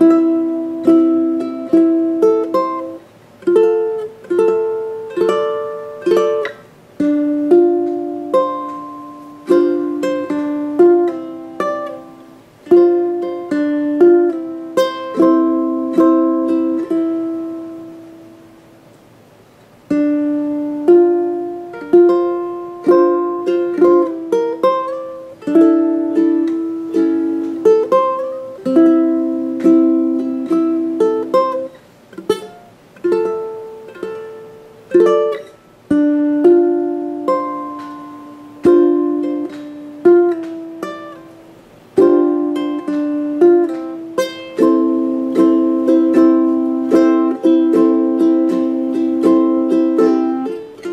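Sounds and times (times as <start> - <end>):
ukulele plucked melody and chords: 0.0 - 50.9.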